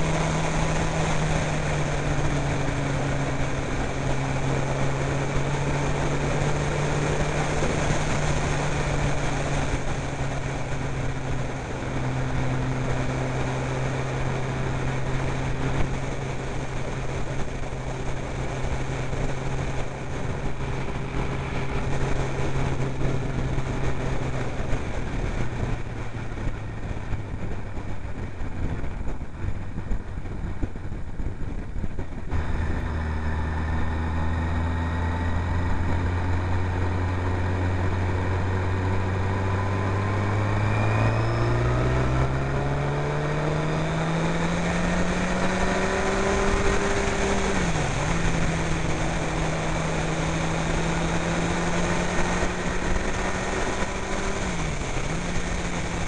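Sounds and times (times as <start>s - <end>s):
motorcycle engine: 0.0s - 56.0s
rushing wind noise: 0.0s - 56.0s.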